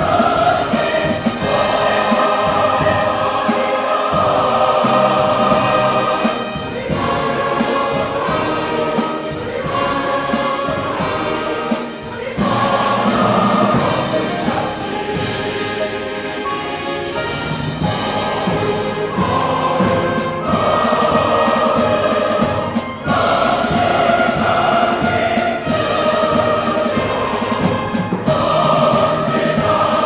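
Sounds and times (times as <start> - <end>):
choir singing a hymn: 0.0 - 30.0
orchestral accompaniment: 0.0 - 30.0.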